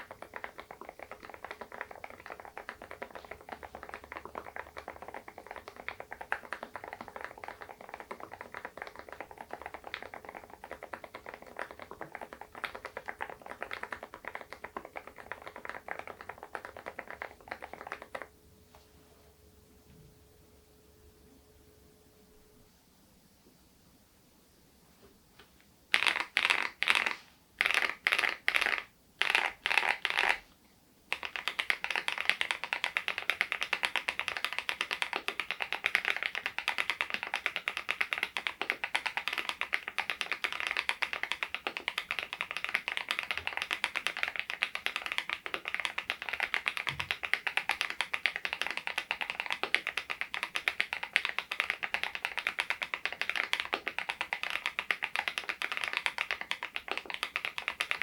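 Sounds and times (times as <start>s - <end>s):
mechanical keyboard typing: 0.0s - 18.3s, 25.9s - 30.4s, 31.1s - 58.0s.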